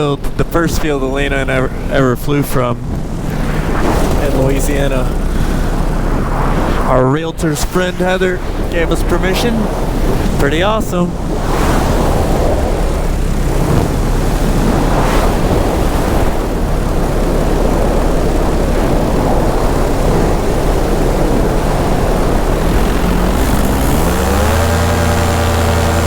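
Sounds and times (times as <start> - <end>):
paramotor engine and propeller: 0.0 - 26.0
wind rush on microphone: 0.0 - 26.0.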